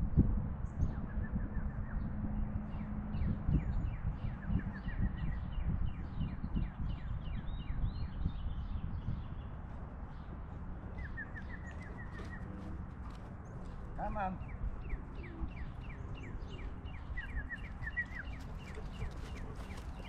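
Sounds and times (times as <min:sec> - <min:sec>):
songbird chirping: 0:02.8 - 0:20.0.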